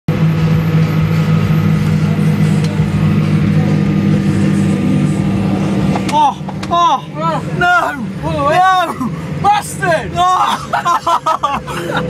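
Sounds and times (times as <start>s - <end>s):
engine running steadily: 0.1s - 12.0s.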